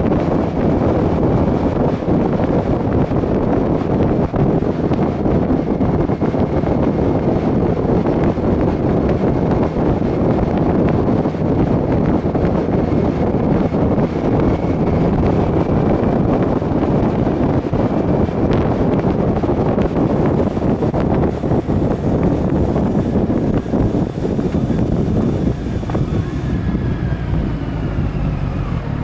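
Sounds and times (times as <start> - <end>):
motorcycle engine and road noise: 0.0 - 29.0
wind buffeting microphone: 0.0 - 29.0.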